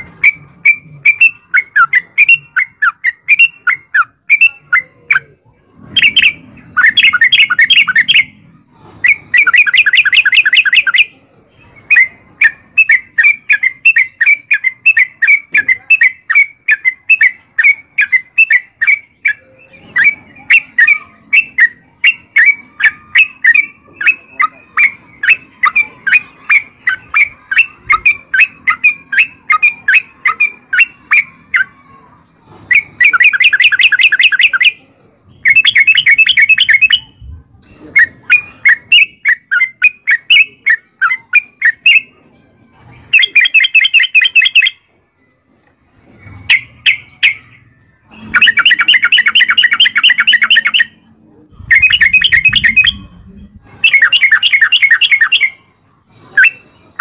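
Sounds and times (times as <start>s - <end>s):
bulbul singing: 0.0s - 32.0s, 32.6s - 45.4s, 46.0s - 57.0s.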